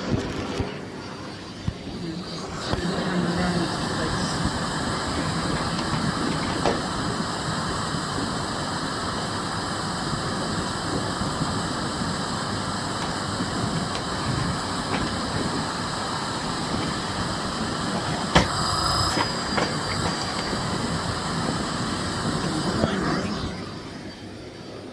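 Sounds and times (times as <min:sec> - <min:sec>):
vacuum cleaner running: 0:00.0 - 0:24.9.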